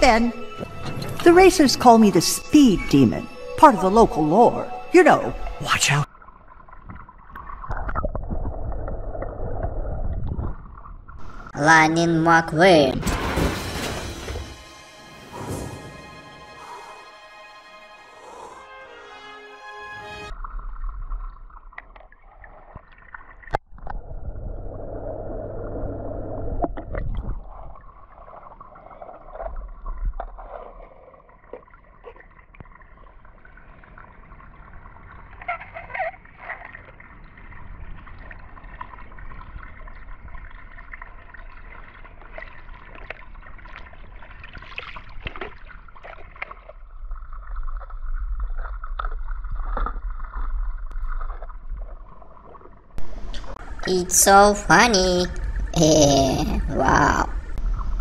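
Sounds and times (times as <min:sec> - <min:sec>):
water sloshing and gurgling: 0:00.0 - 0:58.0.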